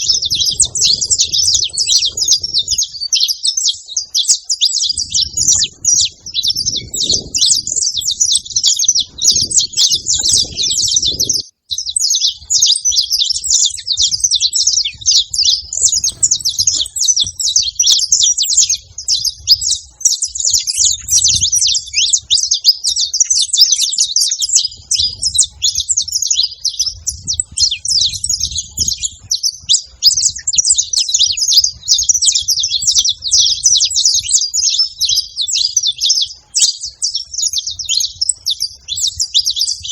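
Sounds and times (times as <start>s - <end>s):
finch singing: 0.0s - 39.9s.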